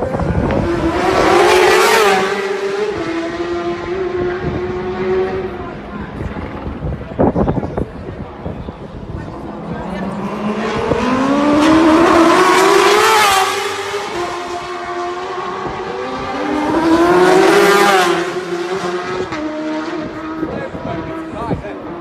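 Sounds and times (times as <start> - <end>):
racing motorcycles passing fast: 0.0 - 7.0, 9.4 - 22.0.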